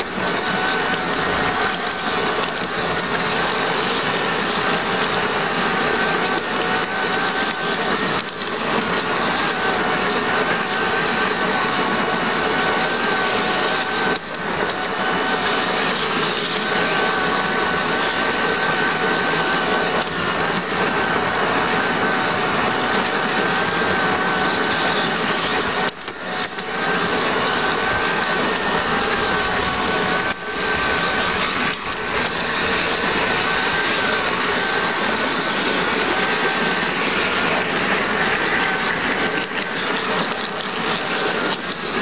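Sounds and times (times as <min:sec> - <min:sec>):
electric motor whine: 0:00.0 - 0:42.0
model train wheels rumbling on track: 0:00.0 - 0:42.0.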